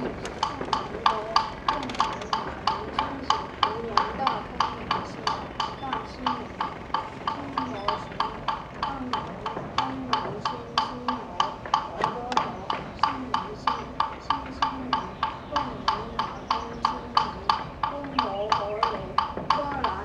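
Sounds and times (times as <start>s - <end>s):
person chanting: 0.0s - 20.0s
wooden fish knocking: 0.0s - 20.0s.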